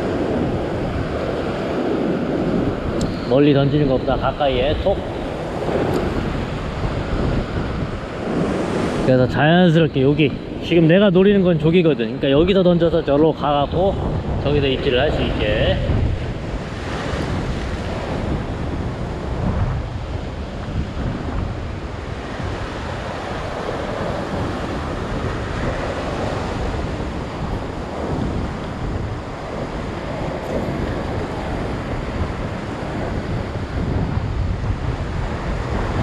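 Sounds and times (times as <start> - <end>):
ocean waves breaking on rocks: 0.0 - 36.0
wind on microphone: 0.0 - 36.0.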